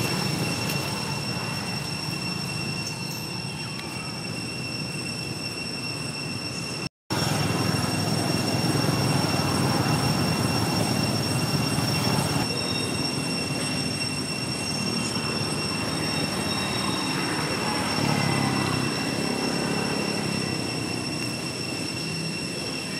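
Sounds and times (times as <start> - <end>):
high-pitched whine: 0.0 - 22.9.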